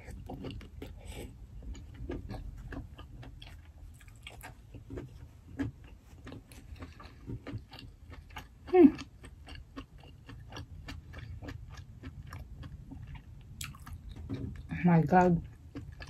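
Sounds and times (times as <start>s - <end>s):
chewing and lip-smacking: 0.0s - 14.8s, 15.4s - 16.0s.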